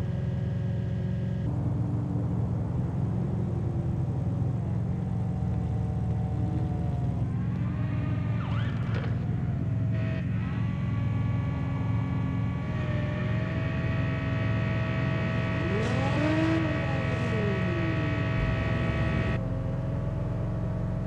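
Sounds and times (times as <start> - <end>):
mechanical drone with hum: 0.0 - 21.0.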